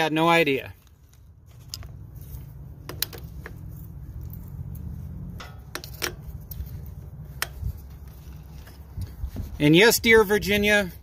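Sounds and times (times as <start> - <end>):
steady low rumble: 0.7 - 11.0.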